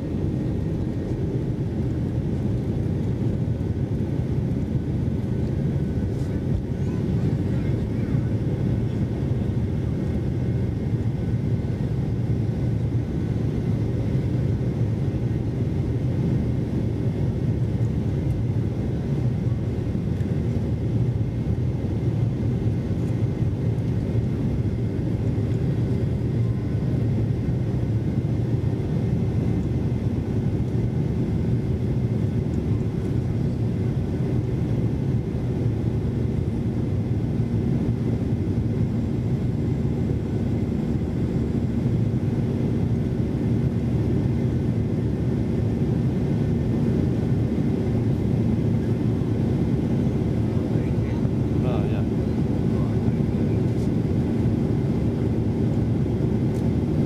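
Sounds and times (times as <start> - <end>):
faint steady whine: 0.0 - 57.0
jet engines and airflow rumble: 0.0 - 57.0.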